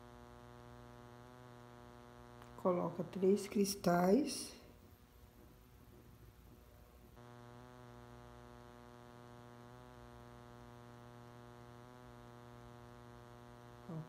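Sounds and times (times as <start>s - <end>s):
faint electrical mains hum: 0.0s - 14.0s.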